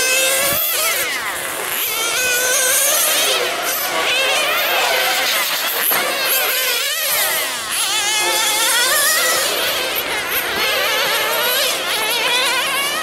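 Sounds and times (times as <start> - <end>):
rc car engines buzzing: 0.0 - 13.0.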